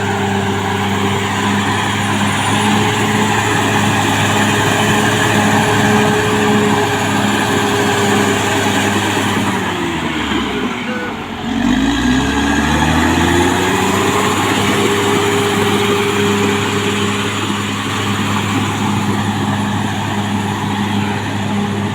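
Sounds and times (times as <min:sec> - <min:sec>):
bulldozer diesel engine revving: 0:00.0 - 0:21.9.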